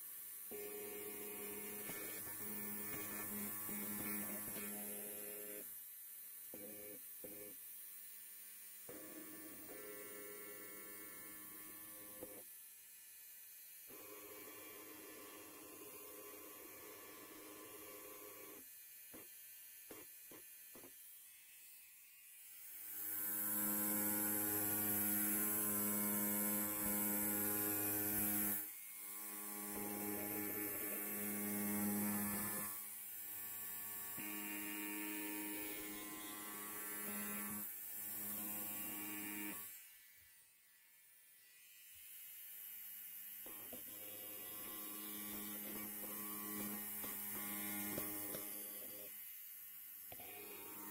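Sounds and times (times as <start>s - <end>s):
electric hair clipper buzzing: 0.0s - 50.9s.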